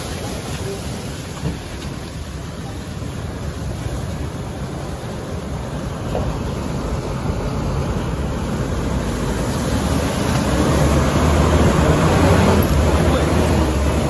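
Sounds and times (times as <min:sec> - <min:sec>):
road and wind noise: 0:00.0 - 0:14.0
vehicle engine drone: 0:00.0 - 0:14.0.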